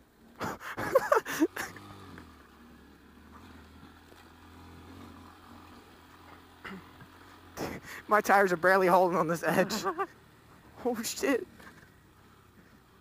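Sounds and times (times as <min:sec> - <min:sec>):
motorcycle engine revving: 0:00.2 - 0:13.0.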